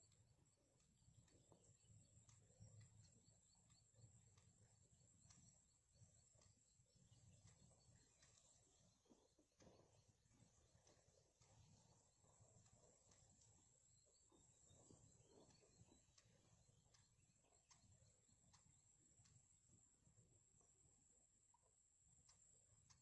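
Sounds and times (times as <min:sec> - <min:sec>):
faint ticks: 0:00.0 - 0:23.0.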